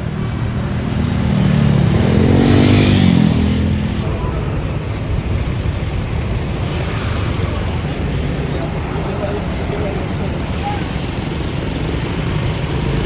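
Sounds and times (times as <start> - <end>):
vehicle engine revving and rumbling: 0.0 - 13.0.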